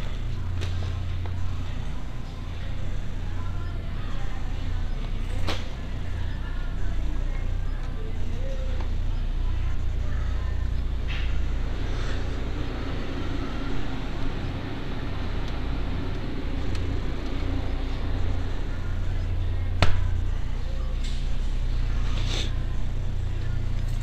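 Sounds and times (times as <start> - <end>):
refrigerator hum and hiss: 0.0 - 24.0.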